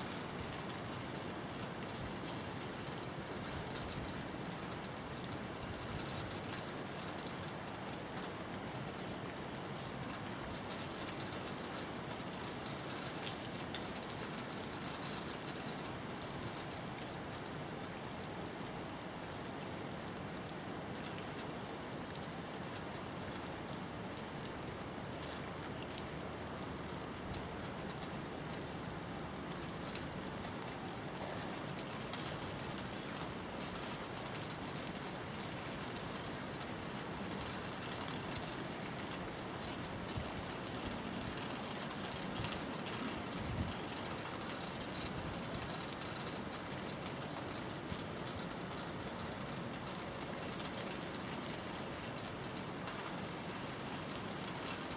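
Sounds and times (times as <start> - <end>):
rain falling steadily: 0.0 - 54.9.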